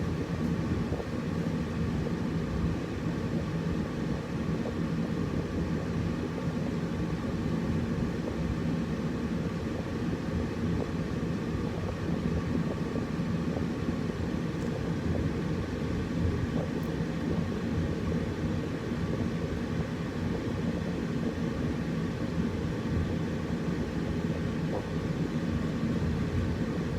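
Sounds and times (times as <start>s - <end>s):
air conditioner humming: 0.0s - 26.9s.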